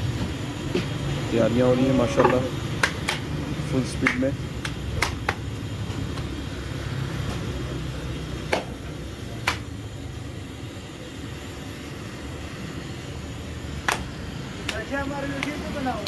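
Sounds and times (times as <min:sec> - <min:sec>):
street stall ambience rumble: 0:00.0 - 0:16.0.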